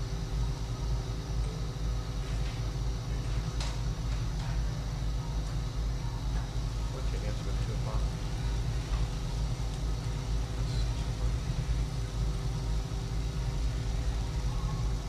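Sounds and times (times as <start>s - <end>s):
steady tonal hum: 0.0s - 15.0s.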